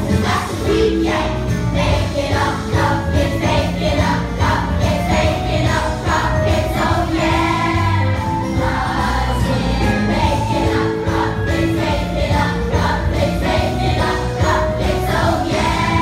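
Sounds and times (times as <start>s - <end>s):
children's choir singing: 0.0s - 16.0s
instrumental accompaniment: 0.0s - 16.0s.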